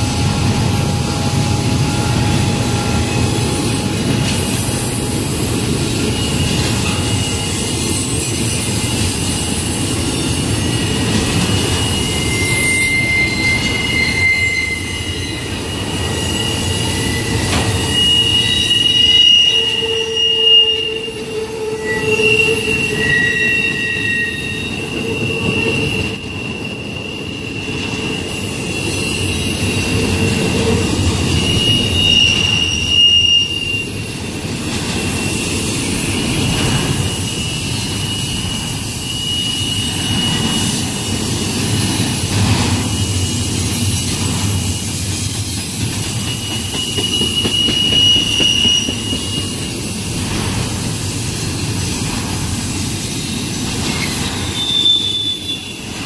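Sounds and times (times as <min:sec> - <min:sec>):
freight train rumbling on rails: 0:00.0 - 0:56.0
high wheel squeals: 0:00.0 - 0:56.0.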